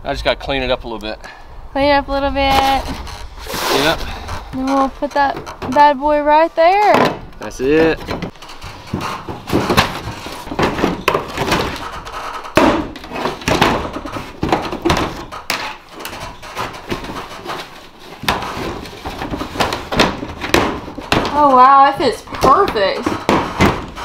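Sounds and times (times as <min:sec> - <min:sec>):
knocks scrapes and clatter: 0:02.3 - 0:24.0.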